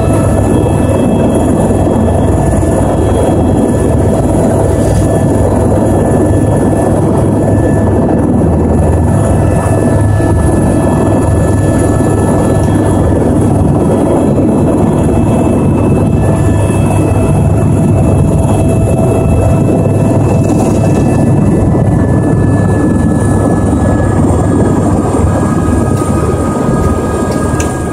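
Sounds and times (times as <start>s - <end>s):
helicopter turbine and rotor: 0.0s - 27.9s.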